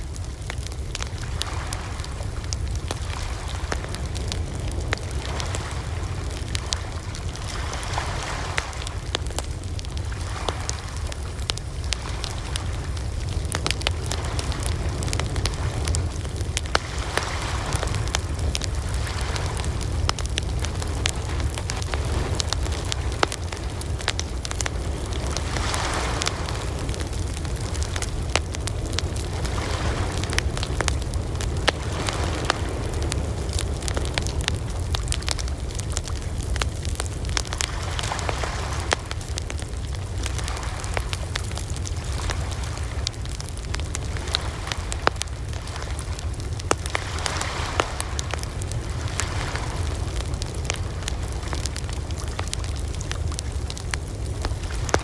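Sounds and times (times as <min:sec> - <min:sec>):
bonfire crackling: 0:00.0 - 0:55.0
low rumble of flames: 0:00.0 - 0:55.0.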